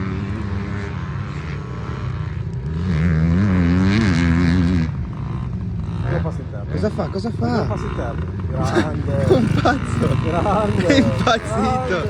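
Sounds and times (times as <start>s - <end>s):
two-stroke minibike engine revving: 0.0s - 12.0s.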